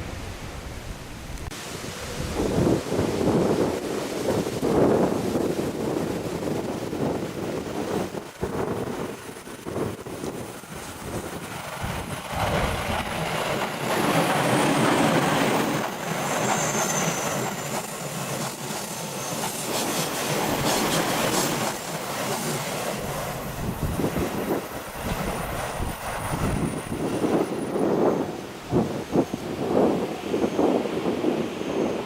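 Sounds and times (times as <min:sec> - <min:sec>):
high train whine: 0:00.0 - 0:32.0
train wheels rushing on rails: 0:00.0 - 0:32.0.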